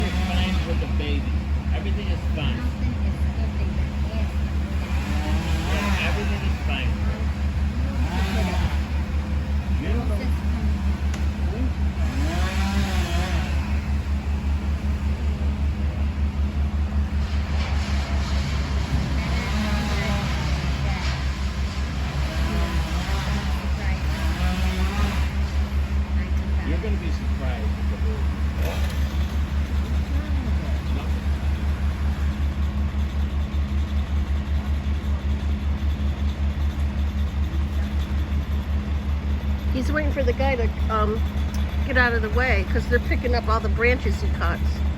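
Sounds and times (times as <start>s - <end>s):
large engine throbbing: 0.0s - 44.9s.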